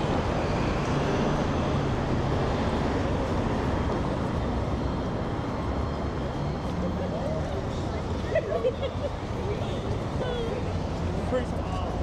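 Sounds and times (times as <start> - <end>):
street traffic noise: 0.0 - 12.0
vehicle engine hum: 0.0 - 12.0.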